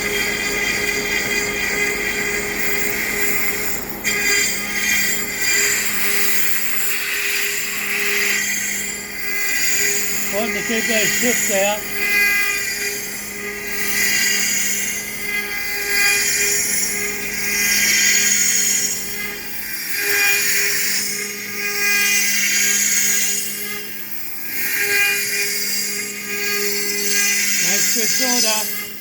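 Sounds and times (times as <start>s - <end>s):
cutter cutting wood: 0.0s - 29.0s
router spindle whine: 0.0s - 29.0s.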